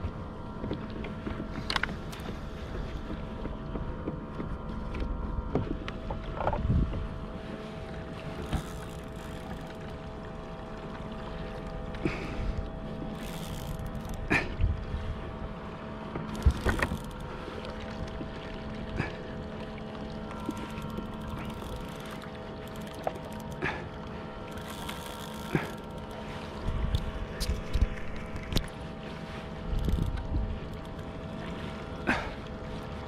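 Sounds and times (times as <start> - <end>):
steady hum: 0.0 - 33.0
water against kayak hull: 0.0 - 33.0.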